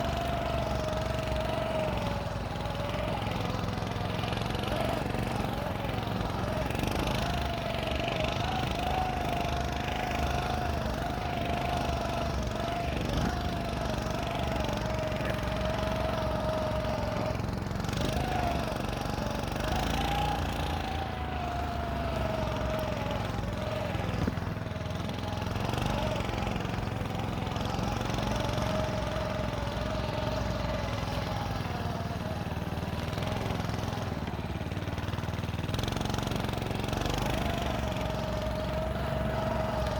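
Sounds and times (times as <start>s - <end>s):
snow scooter engine running: 0.0s - 39.9s.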